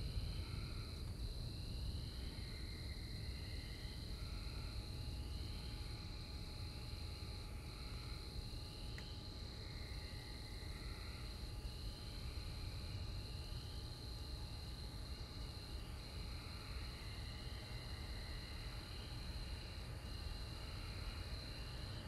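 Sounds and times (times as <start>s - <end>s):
insect drone: 0.0s - 22.0s.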